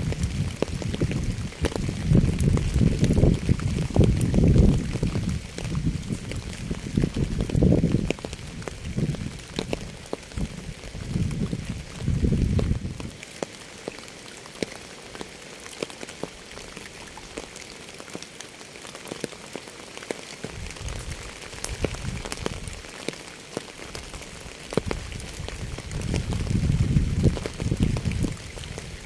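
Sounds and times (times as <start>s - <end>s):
rain drops ticking: 0.0s - 29.0s.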